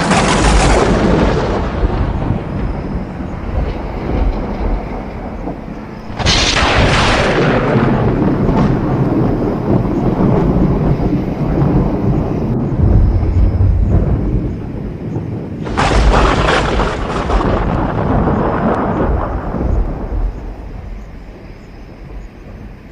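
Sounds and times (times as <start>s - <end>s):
thunder crack and rumble: 0.0s - 22.9s.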